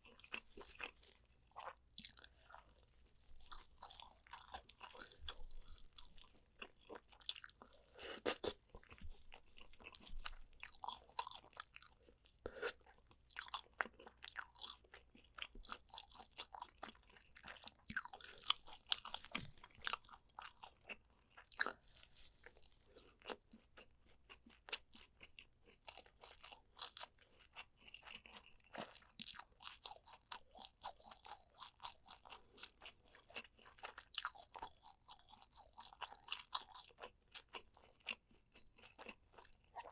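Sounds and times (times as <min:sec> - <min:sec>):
chewing and biting ribs: 0:00.0 - 0:39.9.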